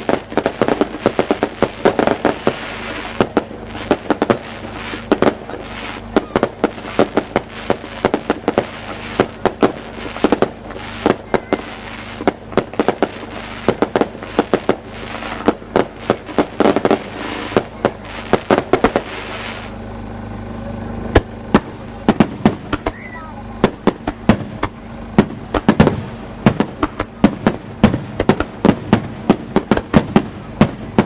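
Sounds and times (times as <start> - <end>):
fireworks bangs: 0.0 - 31.0
fireworks crackle: 0.0 - 31.0.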